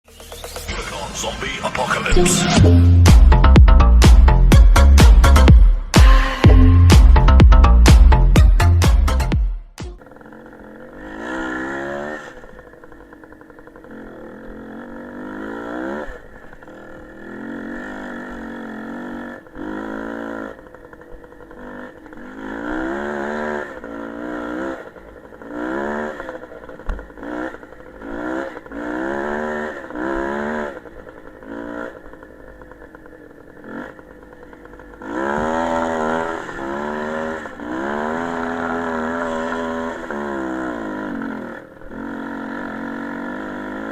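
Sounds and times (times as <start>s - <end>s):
motorcycle engine revving: 0.1s - 43.9s.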